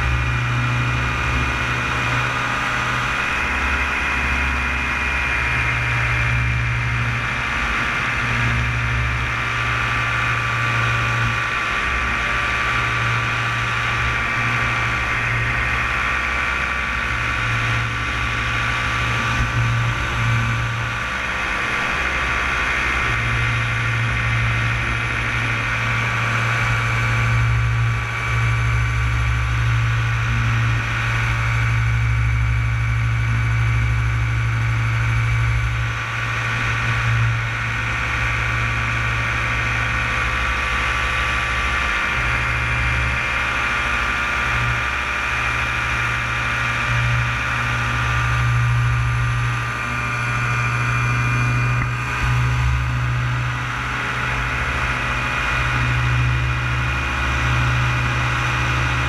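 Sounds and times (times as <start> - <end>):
paramotor engine droning: 0.0 - 59.0.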